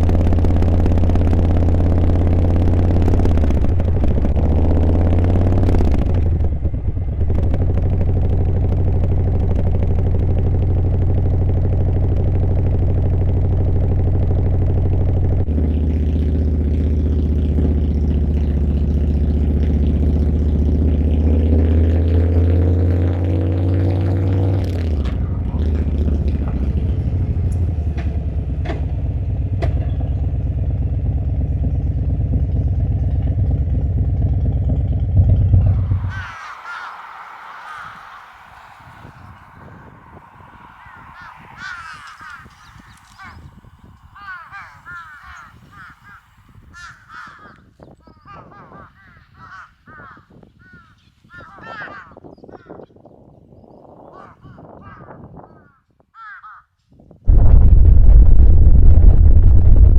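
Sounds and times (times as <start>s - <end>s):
motorcycle engine accelerating: 0.0s - 46.9s, 57.3s - 59.9s.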